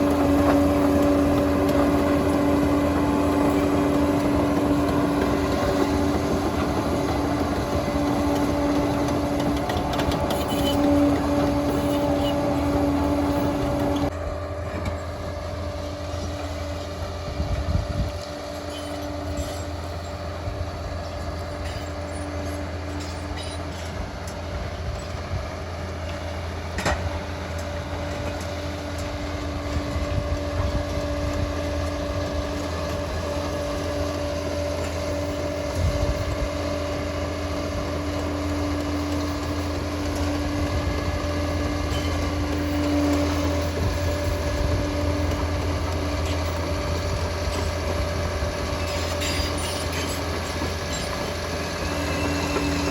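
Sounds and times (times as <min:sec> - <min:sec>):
diesel engine running with whine: 0:00.0 - 0:52.9.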